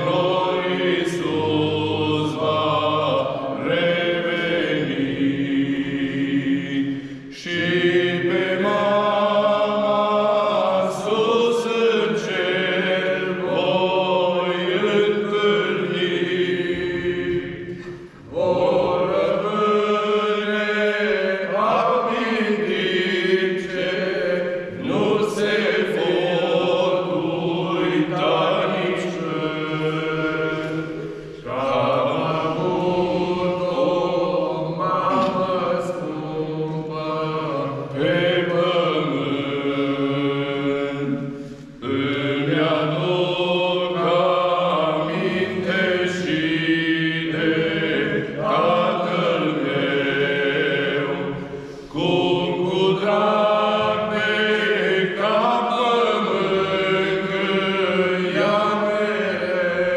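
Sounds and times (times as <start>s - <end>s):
men singing a religious song: 0.0s - 59.9s.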